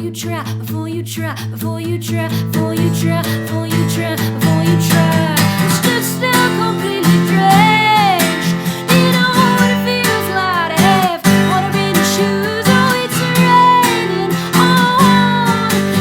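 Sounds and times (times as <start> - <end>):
woman singing: 0.0 - 16.0
acoustic guitar strumming: 2.4 - 16.0.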